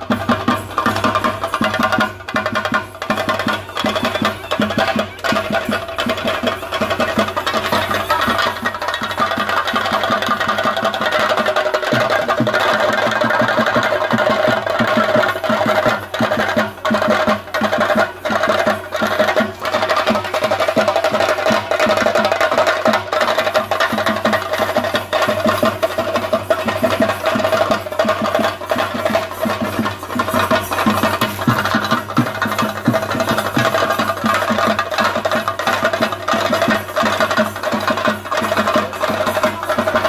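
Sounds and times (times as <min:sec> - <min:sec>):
drum ensemble playing fast rhythm: 0:00.0 - 0:40.0.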